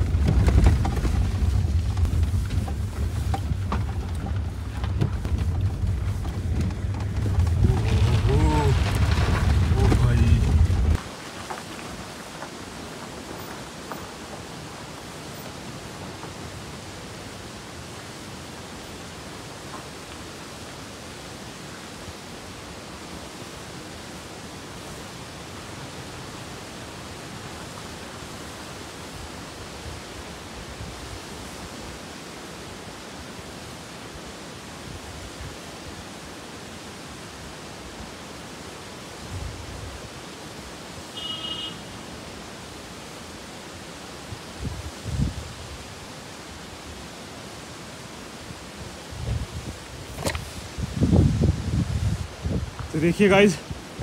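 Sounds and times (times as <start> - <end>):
waterfall rushing: 7.4 - 50.8.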